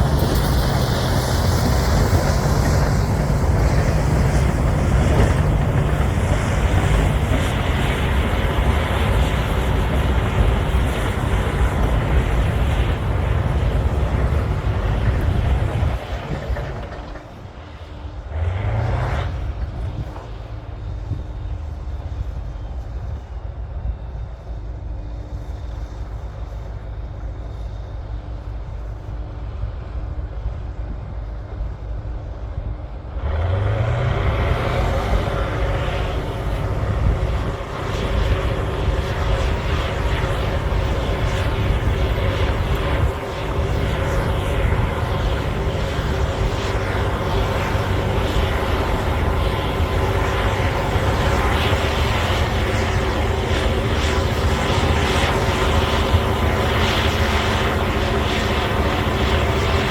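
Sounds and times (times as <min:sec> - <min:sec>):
bulldozer diesel engine under load: 0:00.0 - 0:21.9, 0:33.0 - 0:59.9.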